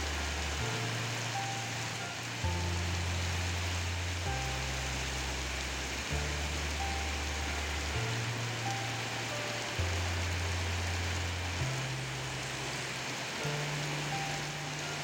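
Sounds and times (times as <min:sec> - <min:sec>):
heavy rain on road: 0:00.0 - 0:15.0
low bass music: 0:00.0 - 0:15.0.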